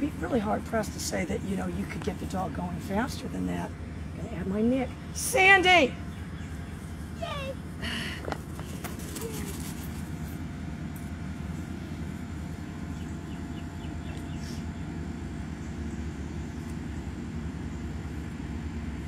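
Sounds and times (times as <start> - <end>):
distant engine drone: 0.0 - 19.0
faint hum: 0.0 - 19.0.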